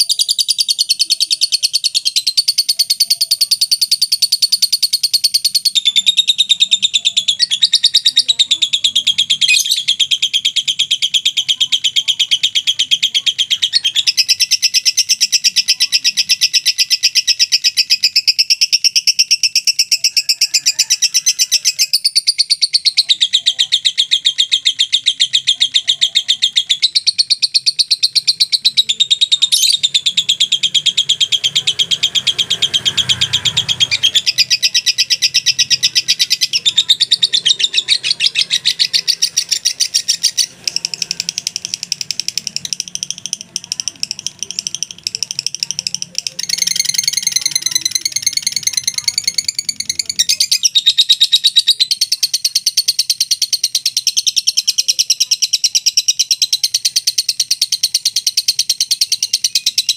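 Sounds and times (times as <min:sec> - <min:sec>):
lovebird shrill chirping chatter: 0:00.0 - 0:59.9.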